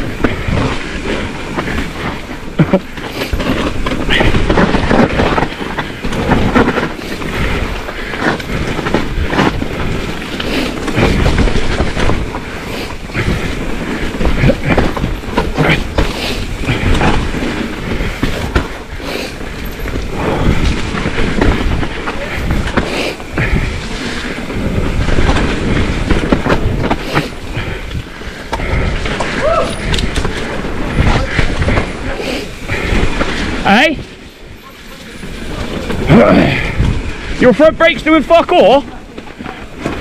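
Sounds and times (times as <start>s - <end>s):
bike rattling and knocking: 0.0s - 40.0s
bike tyres crunching over stones: 0.0s - 40.0s.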